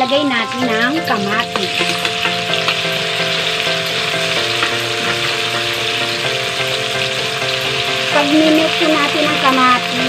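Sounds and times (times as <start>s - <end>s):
background music with held chords: 0.0s - 10.0s
vegetables sizzling in hot oil: 0.0s - 10.0s.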